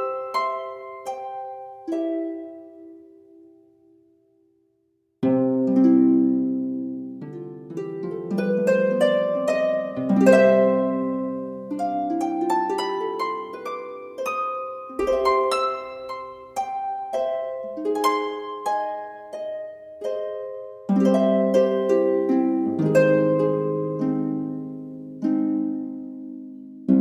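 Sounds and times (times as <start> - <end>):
plucked strings playing arpeggios: 5.2 - 27.0.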